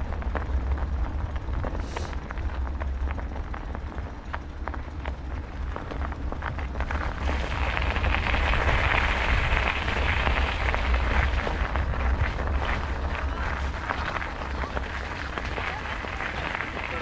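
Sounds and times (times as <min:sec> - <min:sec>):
bicycle tyres rolling over trail: 0:00.0 - 0:17.0
wind rumbling on microphone: 0:00.0 - 0:17.0.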